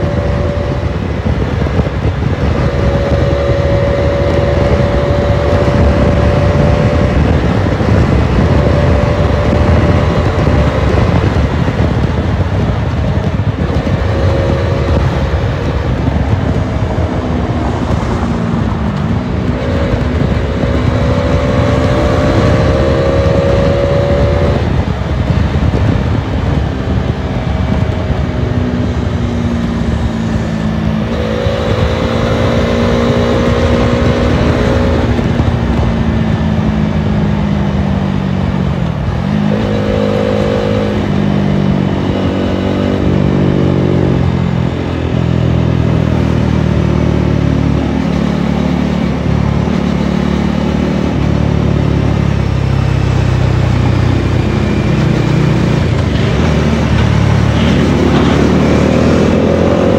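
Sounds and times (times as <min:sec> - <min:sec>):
motorcycle engine: 0:00.0 - 0:59.9
wind rush on microphone: 0:00.0 - 0:59.9.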